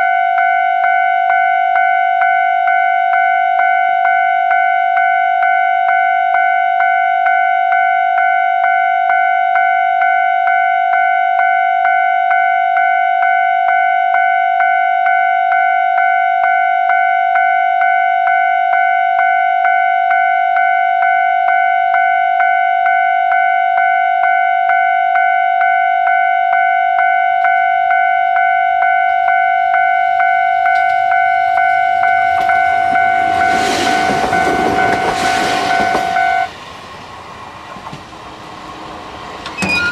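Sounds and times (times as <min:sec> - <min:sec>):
level crossing bell ringing: 0:00.0 - 0:36.5
electric railcar passing: 0:00.0 - 0:39.9.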